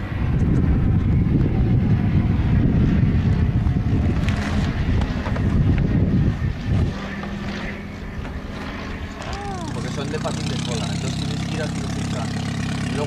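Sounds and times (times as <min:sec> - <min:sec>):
wind buffeting microphone: 0:00.0 - 0:10.5
propeller aircraft engine drone: 0:00.0 - 0:13.0.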